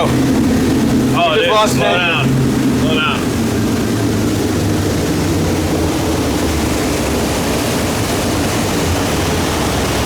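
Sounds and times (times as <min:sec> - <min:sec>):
outboard engines running: 0:00.0 - 0:10.0
rushing wind and water: 0:00.0 - 0:10.0.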